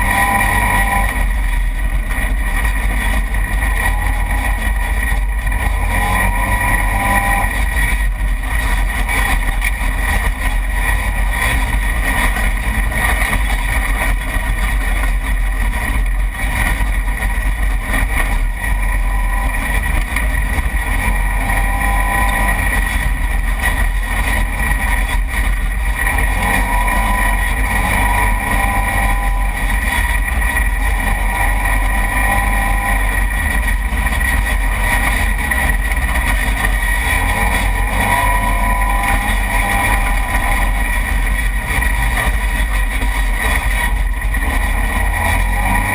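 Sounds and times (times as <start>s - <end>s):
utility vehicle engine running: 0.0s - 45.9s.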